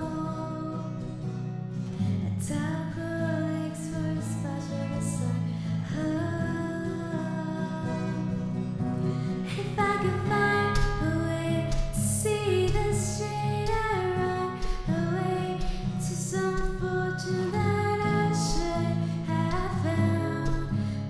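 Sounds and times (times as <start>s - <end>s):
woman singing: 0.0s - 1.4s, 2.1s - 21.0s
acoustic guitar: 0.0s - 21.0s.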